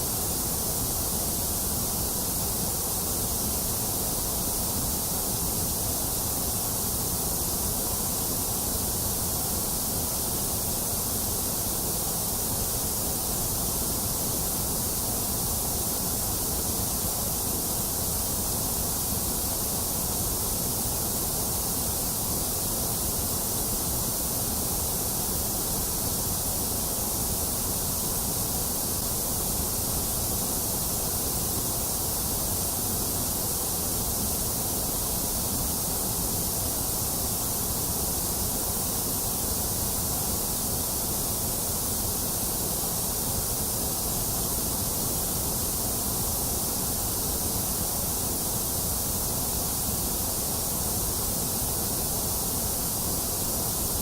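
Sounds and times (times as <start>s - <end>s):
electronic white noise hiss: 0.0s - 54.0s.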